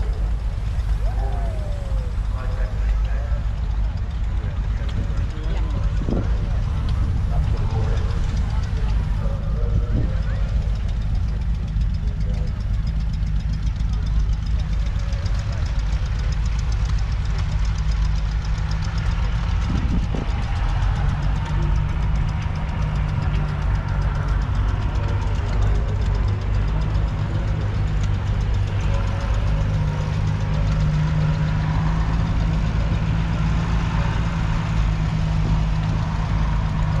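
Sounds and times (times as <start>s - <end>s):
tractor diesel engine idling: 0.0s - 37.0s.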